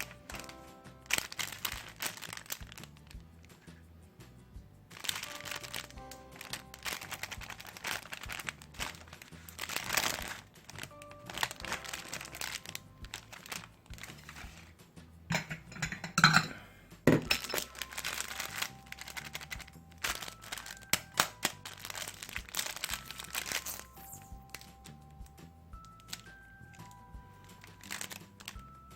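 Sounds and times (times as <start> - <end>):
crinkling handling noises: 0.0 - 3.8, 4.9 - 28.9
soft background music: 0.0 - 28.9.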